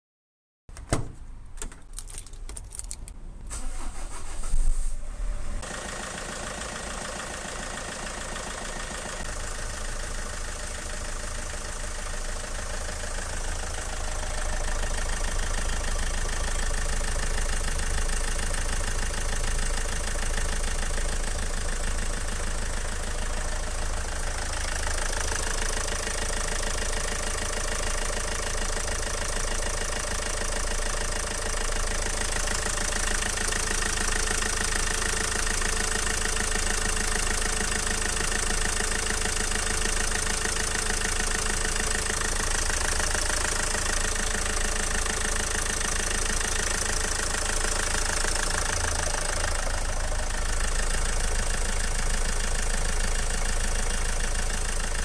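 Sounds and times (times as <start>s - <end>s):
diesel engine cranking and idling: 1.4s - 55.0s.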